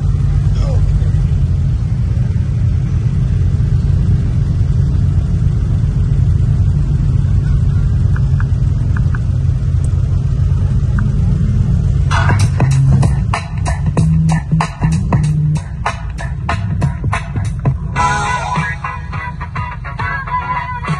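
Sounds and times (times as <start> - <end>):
vehicle engine rumbling: 0.0 - 20.9.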